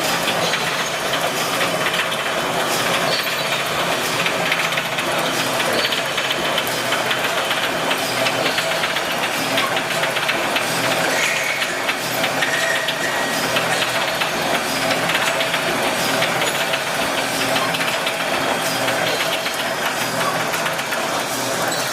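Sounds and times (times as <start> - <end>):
welding machine clattering: 0.0 - 21.9.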